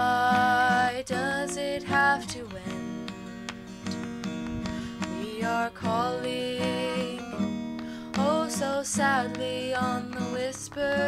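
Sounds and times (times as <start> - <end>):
acoustic guitar strumming and picking: 0.0 - 11.0.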